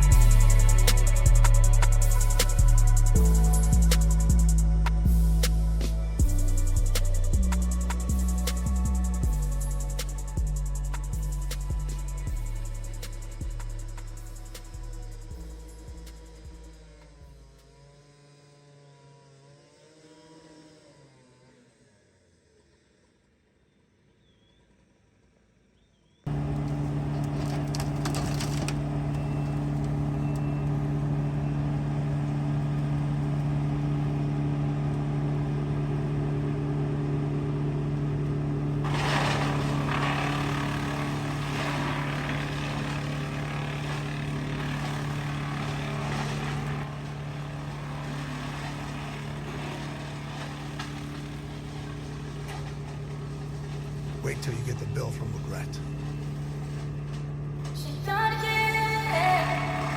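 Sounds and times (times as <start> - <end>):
skid steer engine running: 0.0 - 20.8, 26.3 - 59.9.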